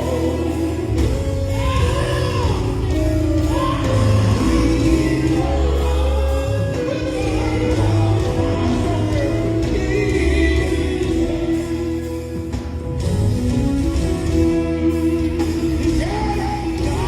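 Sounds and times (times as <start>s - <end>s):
gospel quartet singing: 0.0s - 17.0s
steady bass line: 0.0s - 17.0s.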